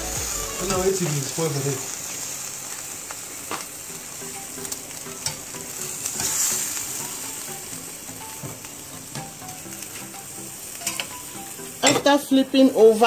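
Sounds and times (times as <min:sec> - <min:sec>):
fish sizzling on a grill: 0:00.0 - 0:13.0.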